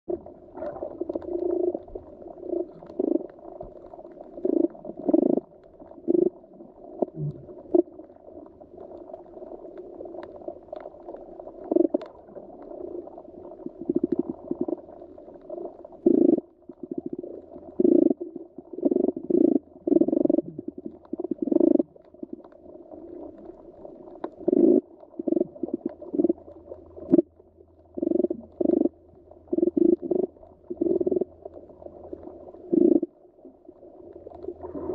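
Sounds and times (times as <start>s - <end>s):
underwater gurgling and bubbling: 0.1s - 34.9s.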